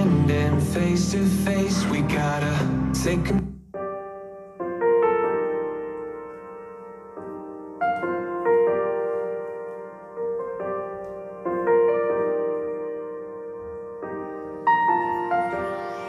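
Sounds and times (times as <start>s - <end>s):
piano chords through speakers: 0.0s - 16.0s.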